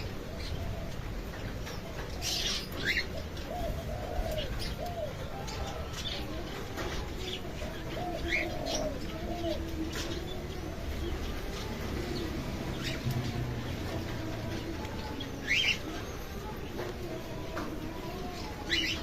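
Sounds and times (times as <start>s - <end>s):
doves cooing: 0.0s - 19.0s
small birds chirping: 0.0s - 19.0s.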